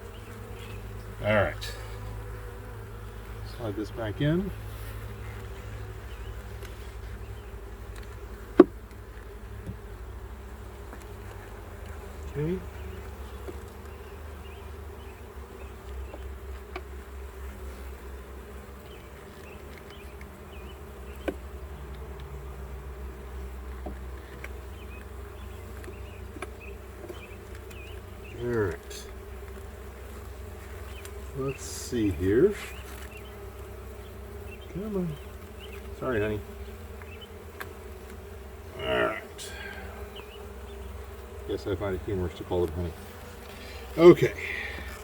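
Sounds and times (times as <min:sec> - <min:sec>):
bees buzzing: 0:00.0 - 0:45.0.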